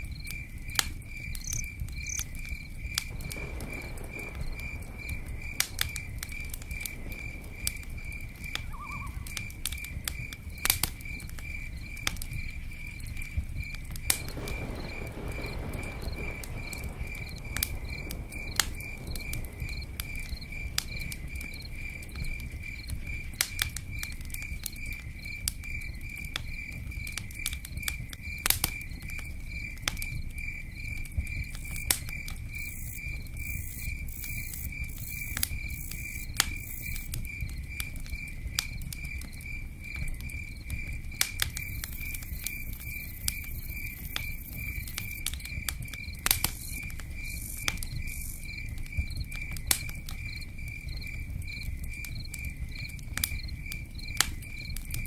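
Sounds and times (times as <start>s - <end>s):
campfire pops and crackles: 0.0s - 55.0s
cricket chirping: 0.0s - 55.0s.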